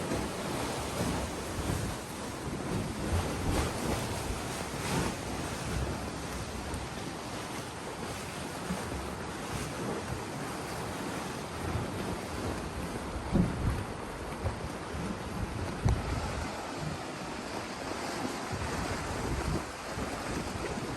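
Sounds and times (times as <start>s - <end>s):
sea noise: 0.0s - 20.9s
wind buffeting microphone: 0.0s - 20.9s.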